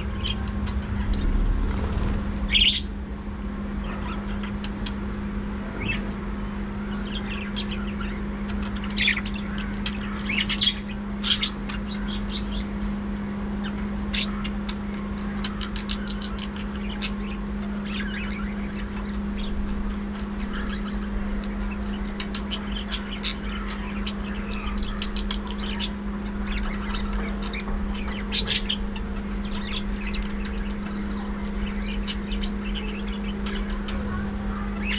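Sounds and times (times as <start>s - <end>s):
budgerigars chirping and squawking: 0.0s - 3.0s, 3.8s - 5.0s, 5.6s - 6.1s, 6.8s - 12.9s, 13.6s - 34.9s
steady low hum: 0.0s - 34.9s.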